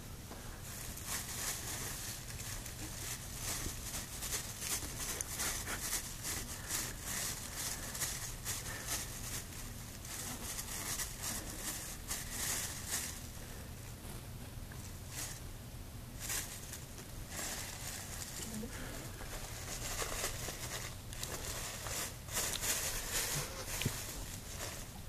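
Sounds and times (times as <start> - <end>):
cat licking plastic bag: 0.7 - 13.6, 16.2 - 25.0.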